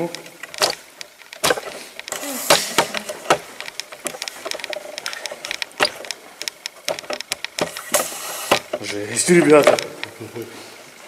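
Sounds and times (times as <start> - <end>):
clicks and knocks among plastic crates: 0.0 - 10.2.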